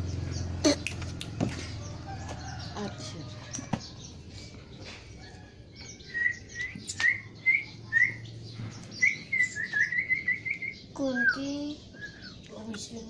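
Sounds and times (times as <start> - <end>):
baby birds chirping: 0.0 - 13.0.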